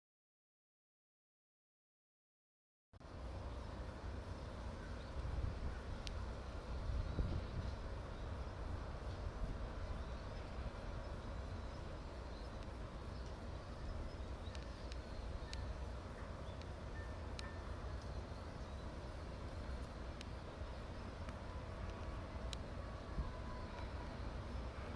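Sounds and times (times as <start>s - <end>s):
low harbour rumble: 3.0s - 24.9s.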